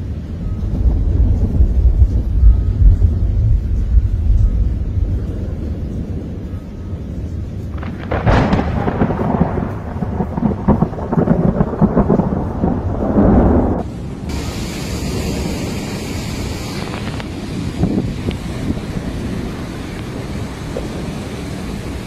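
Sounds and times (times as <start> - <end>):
rain hissing: 0.0 - 22.0
thunder rumbling: 0.0 - 22.0.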